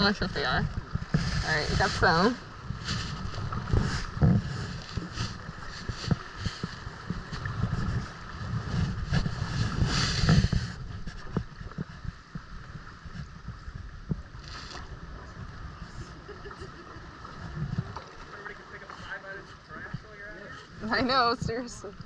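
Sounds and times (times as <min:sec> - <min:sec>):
water splashing around kayak: 0:00.0 - 0:22.0
wind on microphone: 0:00.0 - 0:22.0.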